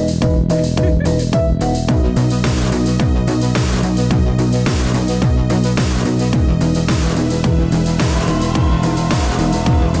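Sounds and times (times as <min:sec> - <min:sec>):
steady kick drum beat: 0:00.0 - 0:10.0.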